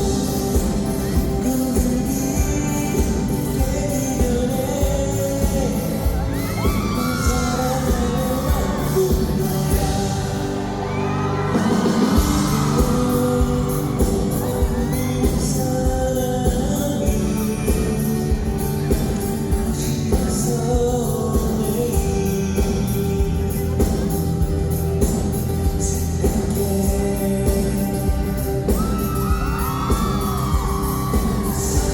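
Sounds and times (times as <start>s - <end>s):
live pop band playing: 0.0s - 31.9s
person singing: 0.0s - 31.9s.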